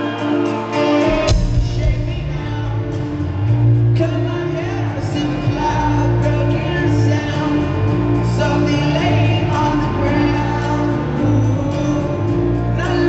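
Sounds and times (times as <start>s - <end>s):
live rock band: 0.0s - 13.0s
man singing: 0.0s - 13.0s.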